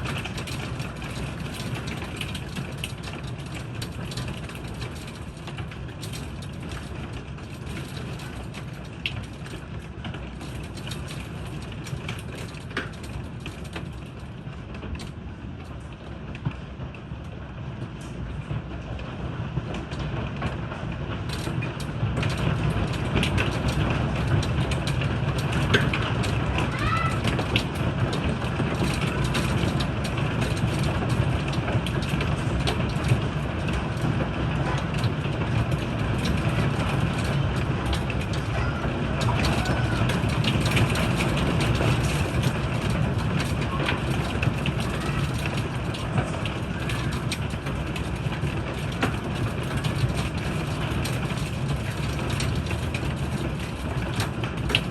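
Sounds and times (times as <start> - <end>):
hailstones clicking on hard surfaces: 0.0 - 54.9
heavy rain falling: 0.0 - 54.9.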